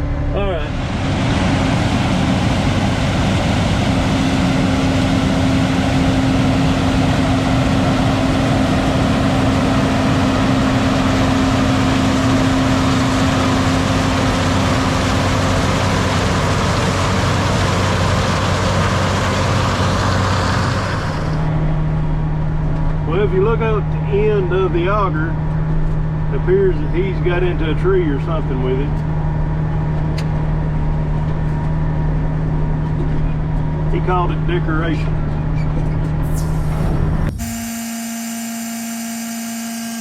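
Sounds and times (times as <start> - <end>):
high-pitched hum: 0.0 - 40.0
tractor diesel engine running: 0.0 - 40.0.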